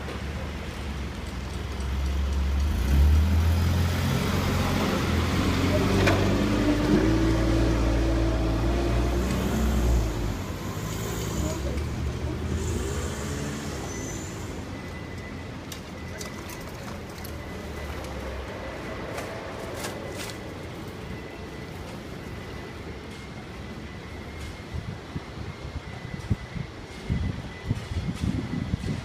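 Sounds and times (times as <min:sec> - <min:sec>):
traffic low rumble: 0:00.0 - 0:29.0.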